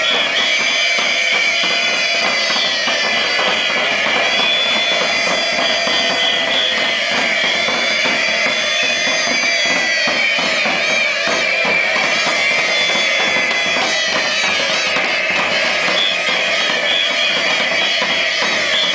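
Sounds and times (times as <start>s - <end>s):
fast irregular drumming: 0.0s - 18.9s
shrill whistles: 0.0s - 18.9s.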